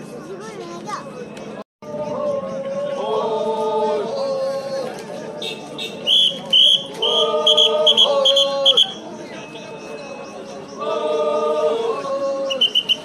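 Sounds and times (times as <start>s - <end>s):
men chanting: 1.8s - 13.0s.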